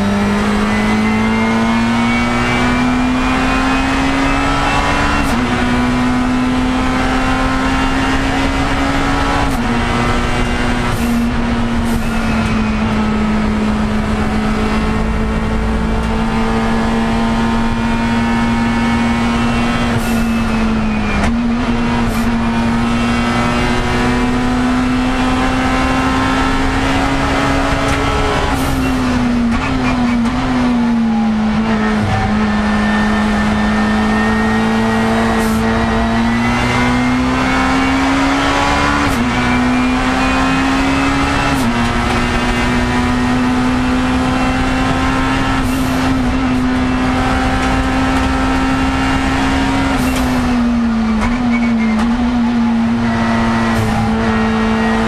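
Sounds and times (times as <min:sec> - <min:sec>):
race car engine under load: 0:00.0 - 0:55.0.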